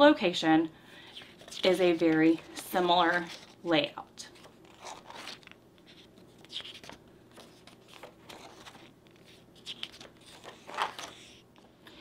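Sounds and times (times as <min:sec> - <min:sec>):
paper pages rustling: 0:01.0 - 0:11.7.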